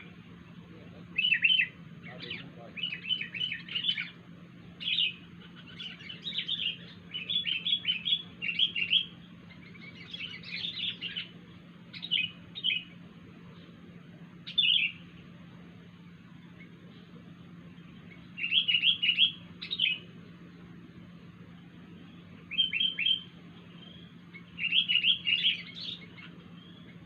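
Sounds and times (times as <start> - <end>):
bird chirping: 0.0 - 27.0
faint low hum: 0.0 - 27.0.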